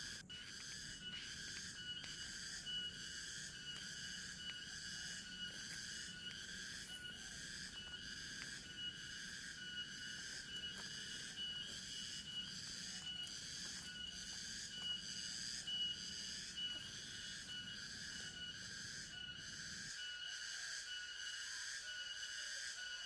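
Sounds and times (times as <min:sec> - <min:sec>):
insects buzzing and trilling: 0:00.0 - 0:23.0.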